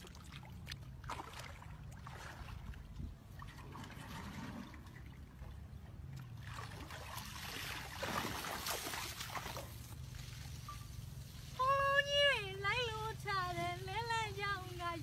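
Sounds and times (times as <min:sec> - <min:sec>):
water sloshing from wading: 0:00.0 - 0:15.0.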